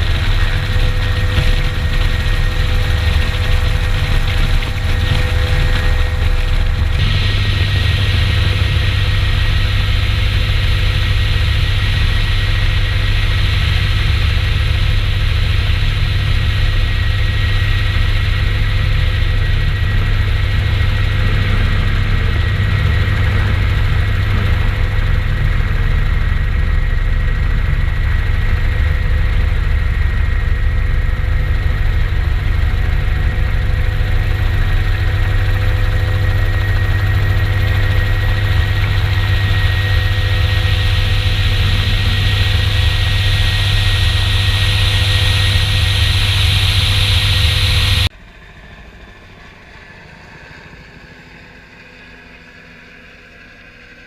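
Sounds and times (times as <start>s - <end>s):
high whine: 0.0s - 48.1s
helicopter rotor drone: 0.0s - 54.0s.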